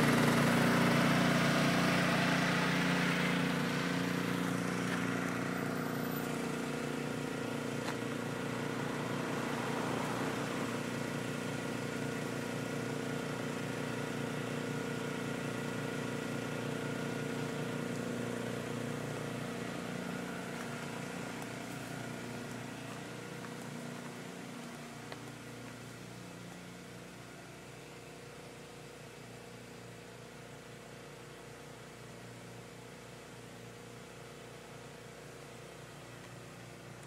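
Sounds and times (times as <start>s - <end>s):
car engine running at low revs: 0.0s - 37.0s.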